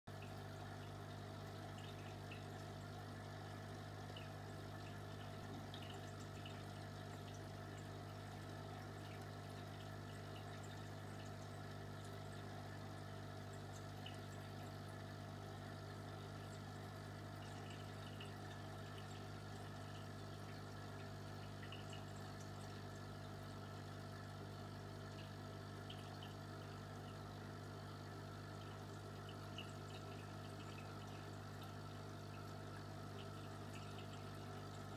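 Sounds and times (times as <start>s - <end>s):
aquarium pump humming: 0.1s - 34.9s
bubbles ticking: 0.1s - 34.9s
water trickling: 0.1s - 34.9s.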